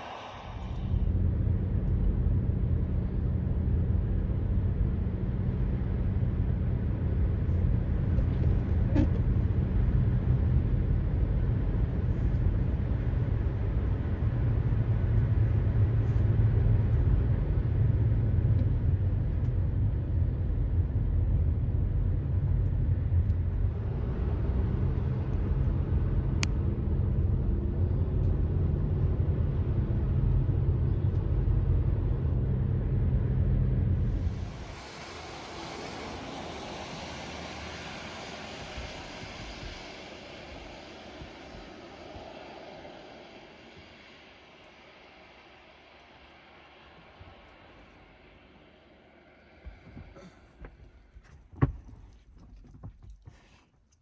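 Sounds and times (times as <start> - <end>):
low hum: 0.0 - 53.2
vehicle engine rumbling: 0.0 - 53.5.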